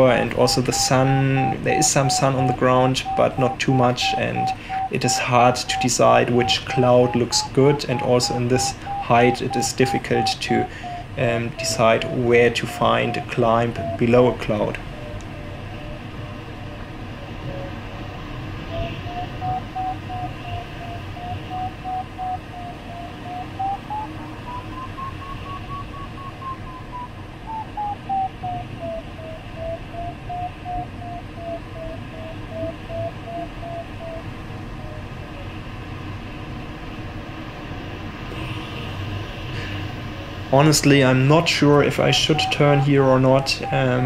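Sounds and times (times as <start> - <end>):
variometer beeping: 0.0 - 16.8, 18.6 - 35.0, 41.8 - 44.0
cockpit airflow noise: 0.0 - 44.0.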